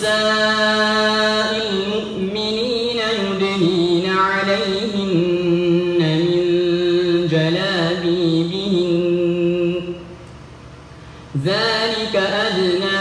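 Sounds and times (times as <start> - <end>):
man chanting melodically: 0.0 - 10.1, 11.4 - 13.0.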